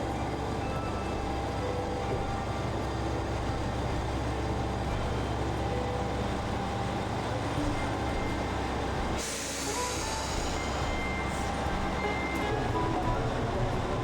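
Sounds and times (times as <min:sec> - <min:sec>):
train engine rumbling: 0:00.0 - 0:14.0.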